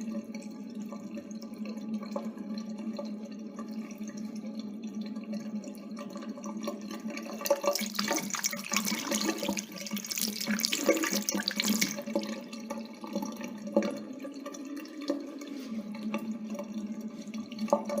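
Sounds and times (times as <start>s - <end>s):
water running from a tap: 0.0s - 18.0s.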